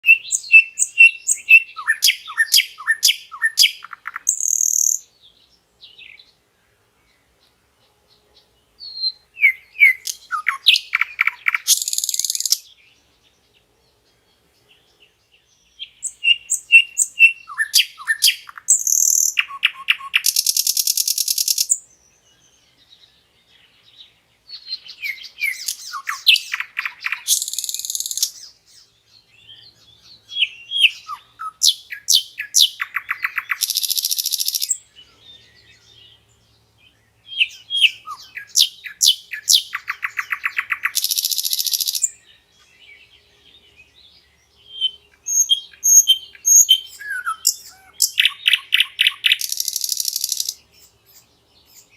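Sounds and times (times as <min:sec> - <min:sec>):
nightingale singing: 0:00.0 - 0:51.9.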